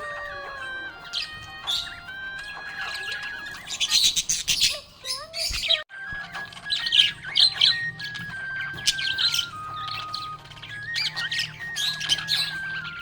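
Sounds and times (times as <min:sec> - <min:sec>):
background music with held notes: 0:00.0 - 0:13.0
budgerigars chirping and squawking: 0:00.0 - 0:13.0.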